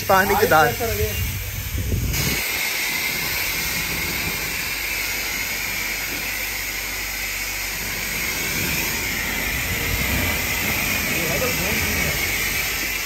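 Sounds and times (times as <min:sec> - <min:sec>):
high-pressure water jet hissing: 0:00.0 - 0:13.0.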